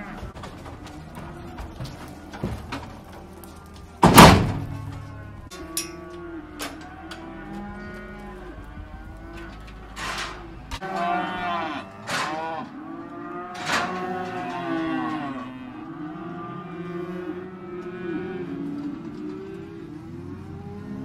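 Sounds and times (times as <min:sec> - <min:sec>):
cattle mooing: 0:00.0 - 0:02.6, 0:03.2 - 0:21.0.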